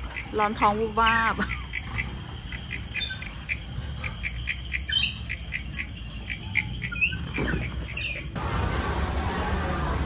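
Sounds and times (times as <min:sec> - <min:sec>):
small bird chirping: 0:00.0 - 0:08.4.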